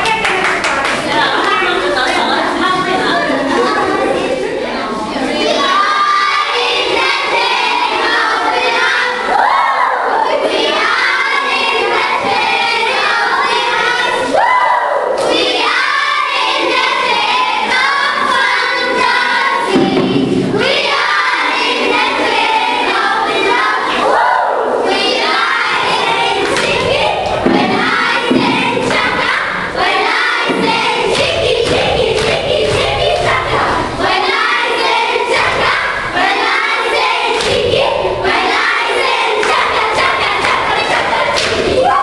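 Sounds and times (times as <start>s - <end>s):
children singing in chorus: 1.1s - 42.0s.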